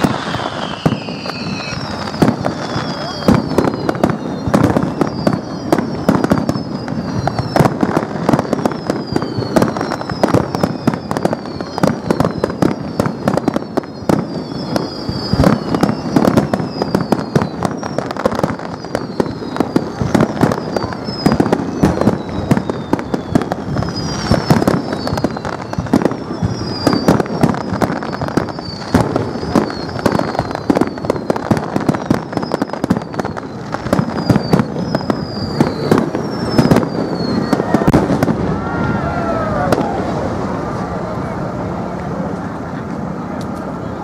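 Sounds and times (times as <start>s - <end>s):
fireworks whistles falling: 0.0s - 41.3s
fireworks bangs and crackles: 0.0s - 44.0s.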